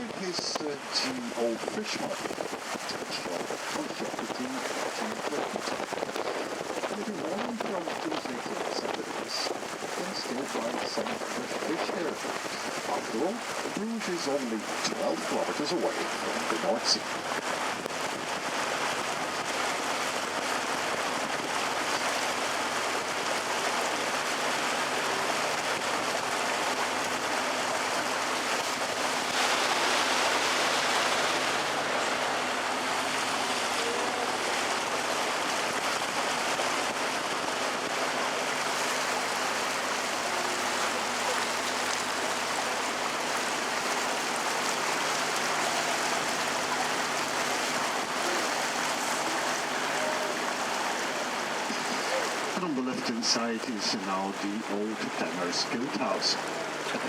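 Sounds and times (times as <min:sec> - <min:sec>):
boat rushing through water: 0:00.0 - 0:57.0
low boat motor hum: 0:00.0 - 0:57.0.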